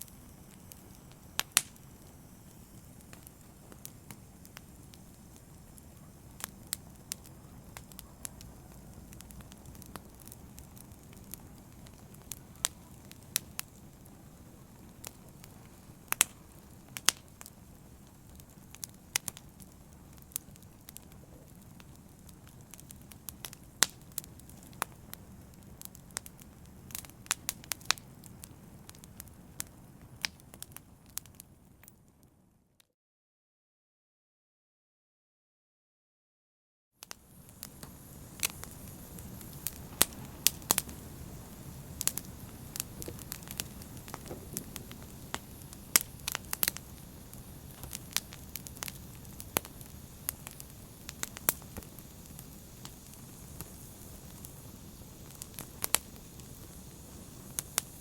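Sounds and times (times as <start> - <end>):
fire crackling and popping: 0.0 - 32.4, 37.0 - 58.0
low rumble of fire: 0.0 - 32.5, 37.0 - 58.0.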